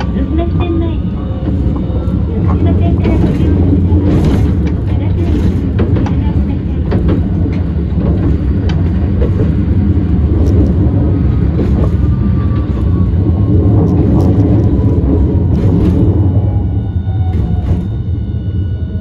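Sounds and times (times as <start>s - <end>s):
tram rumbling: 0.0s - 19.0s.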